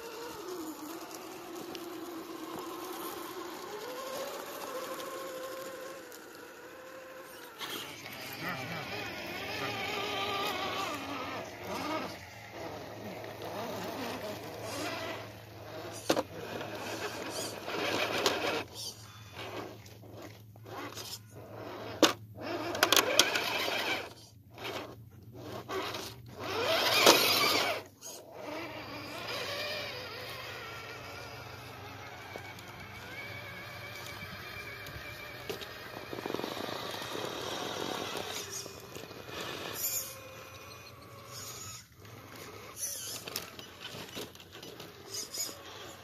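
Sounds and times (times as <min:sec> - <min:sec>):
electric motor whining: 0:00.0 - 0:46.0
tyres scraping over rock: 0:00.0 - 0:46.0.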